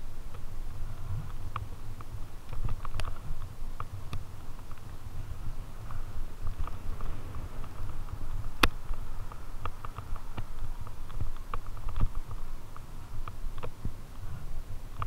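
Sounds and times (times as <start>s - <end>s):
bike rumbling over bumpy grass: 0.0s - 15.0s.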